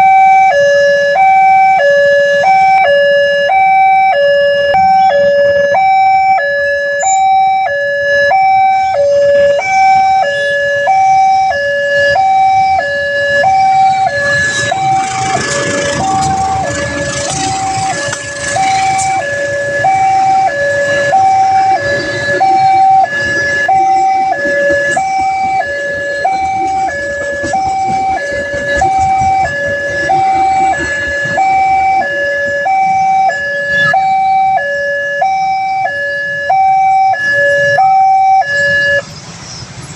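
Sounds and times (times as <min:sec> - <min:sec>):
two-tone level-crossing alarm: 0:00.0 - 0:39.0
broad rush of noise: 0:00.0 - 0:39.9.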